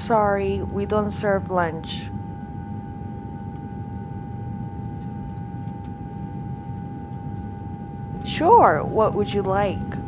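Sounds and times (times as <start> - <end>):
airplane cabin low rumble: 0.0 - 10.0
steady whine: 0.0 - 10.0.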